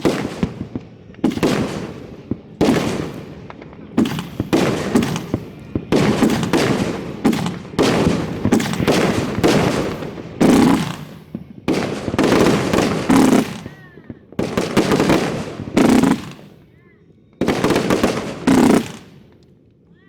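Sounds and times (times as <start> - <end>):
fireworks booming: 0.0 - 16.7, 17.4 - 19.4
fireworks crackling: 0.0 - 16.8, 17.4 - 19.6.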